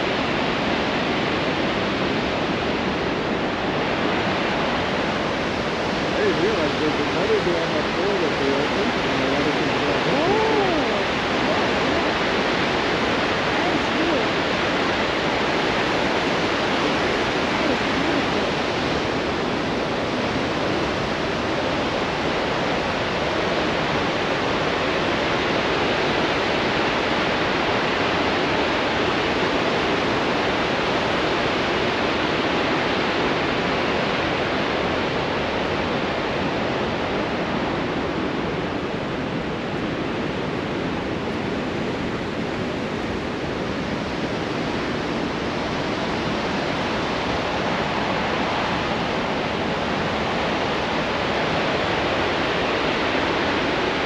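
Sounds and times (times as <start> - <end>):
whitewater rushing over falls: 0.0 - 54.0.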